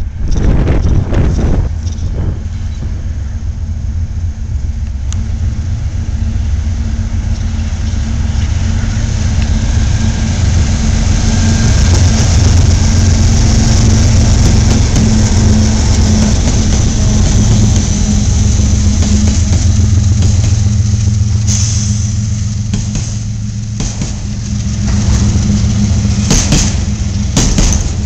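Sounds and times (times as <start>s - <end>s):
diesel locomotive engine drone: 0.0s - 28.0s
steel wheels hissing on rail: 0.0s - 28.0s.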